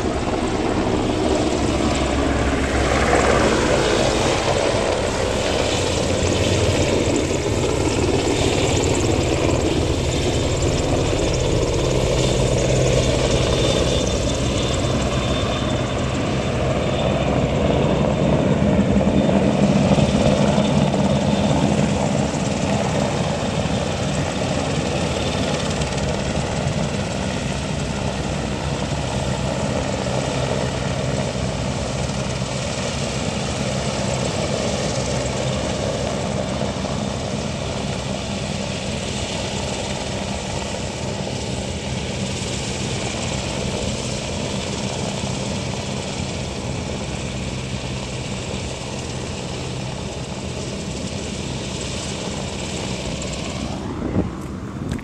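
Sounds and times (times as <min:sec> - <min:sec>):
helicopter rotor and engine drone: 0:00.0 - 0:55.0
high turbine whine: 0:00.0 - 0:55.0.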